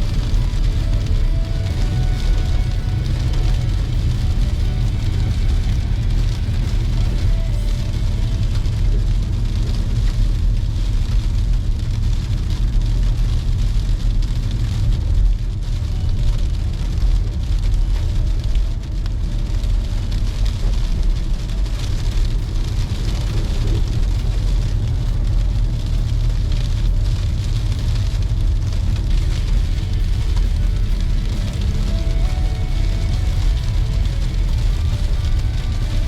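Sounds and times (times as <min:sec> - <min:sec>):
car engine and tyres rumbling: 0:00.0 - 0:36.0
road noise hiss: 0:00.0 - 0:36.0.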